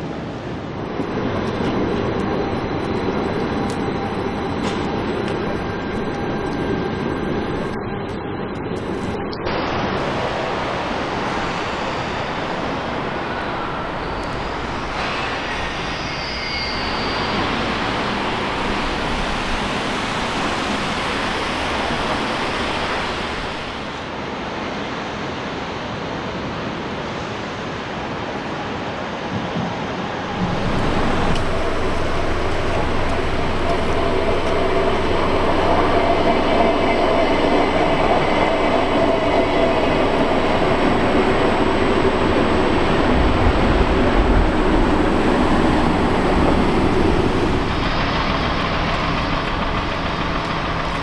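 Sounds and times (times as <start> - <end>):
train rumbling on tracks: 0.0 - 51.0.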